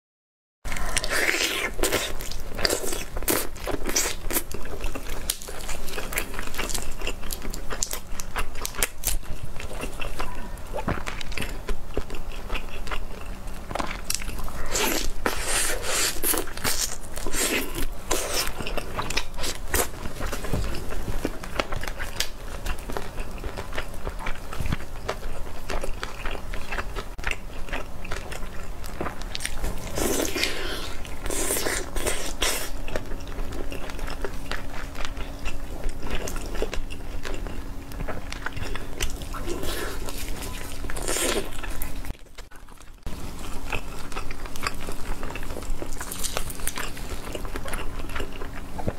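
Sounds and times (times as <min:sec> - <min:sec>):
crunching and wet chewing: 0:00.7 - 0:48.9.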